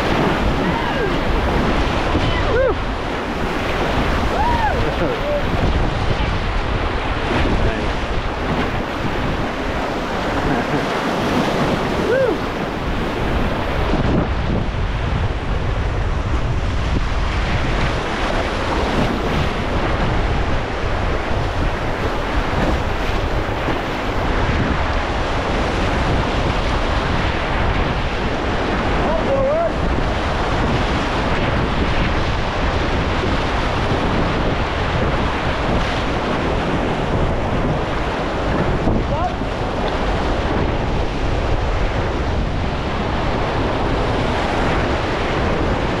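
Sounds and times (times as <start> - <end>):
river water rushing: 0.0 - 46.0
wind noise on microphone: 0.0 - 46.0.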